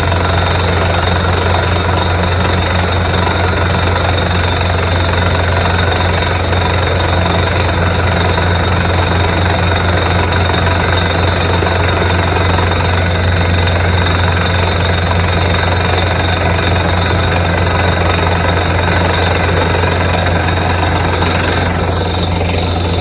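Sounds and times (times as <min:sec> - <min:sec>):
drilling rig running: 0:00.0 - 0:23.0.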